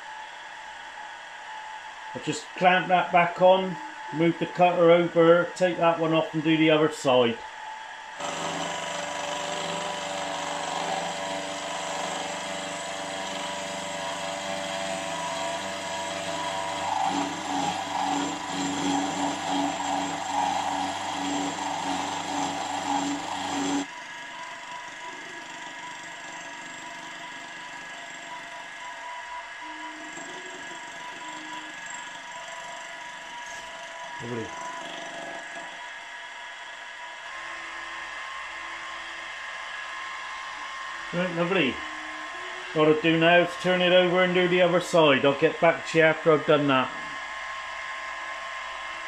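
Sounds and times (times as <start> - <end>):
milling machine cutting metal: 8.2 - 49.0.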